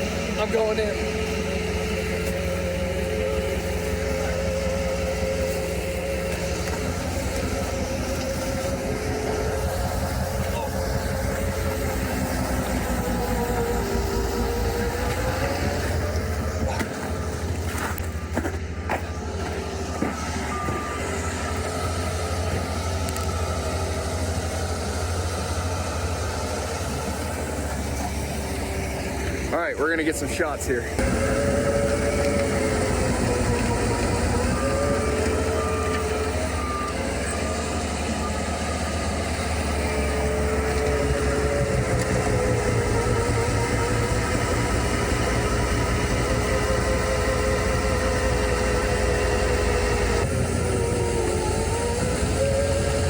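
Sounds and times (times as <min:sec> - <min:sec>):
engine rumble: 0:00.0 - 0:53.0
snowblower whine: 0:00.0 - 0:53.0.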